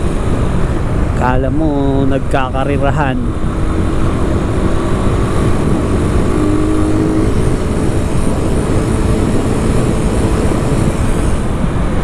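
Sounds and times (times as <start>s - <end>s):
motorcycle engine hum: 0.0s - 12.0s
wind rumble on microphone: 0.0s - 12.0s.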